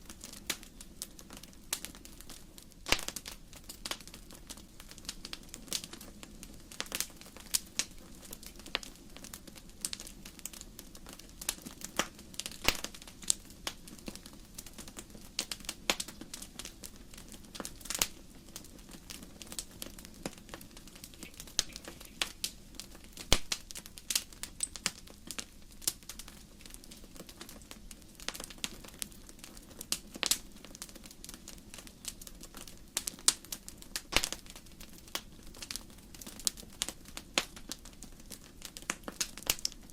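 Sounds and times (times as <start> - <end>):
low hiss of flames: 0.0 - 39.9
wood fire crackling and popping: 0.0 - 39.9.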